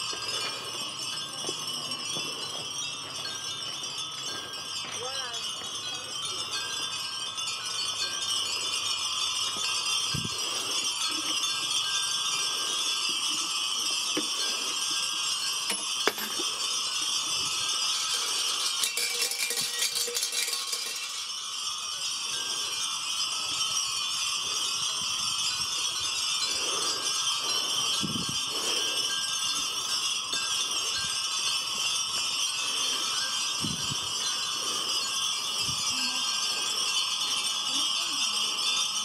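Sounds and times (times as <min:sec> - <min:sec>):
rattling jingle: 0:00.0 - 0:39.0
wind chimes tinkling: 0:00.0 - 0:39.0.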